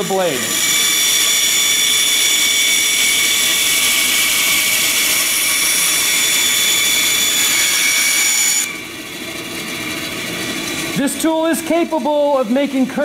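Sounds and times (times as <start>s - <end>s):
bandsaw cutting plywood: 0.0s - 13.0s.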